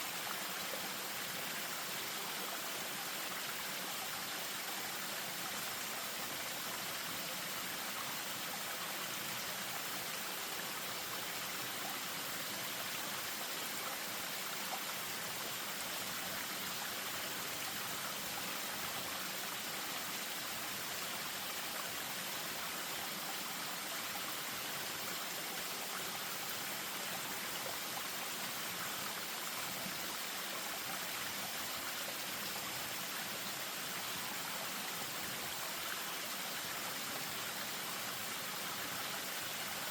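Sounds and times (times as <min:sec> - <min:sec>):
stream over small waterfall: 0:00.0 - 0:39.9.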